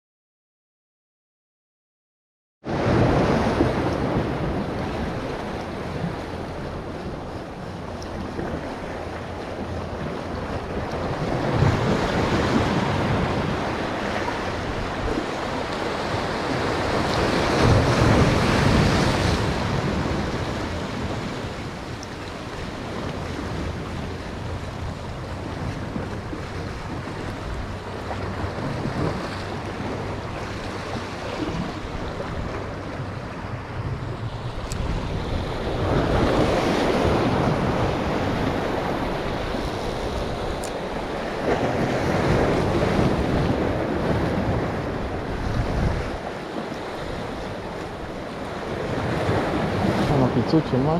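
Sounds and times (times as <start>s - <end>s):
sea waves breaking: 2.7s - 50.9s
wind rumbling on microphone: 2.7s - 50.9s.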